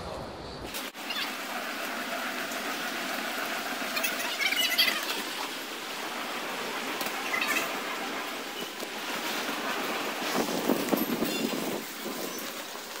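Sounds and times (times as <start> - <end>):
buggy rolling: 0.9 - 13.0.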